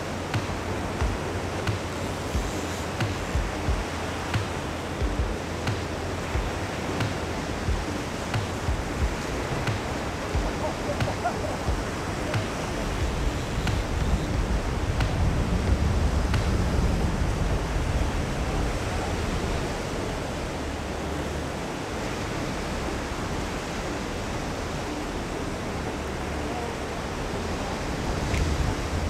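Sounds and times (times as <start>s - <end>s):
surf breaking on beach: 0.0s - 29.0s
wind rumbling on microphone: 0.0s - 29.0s.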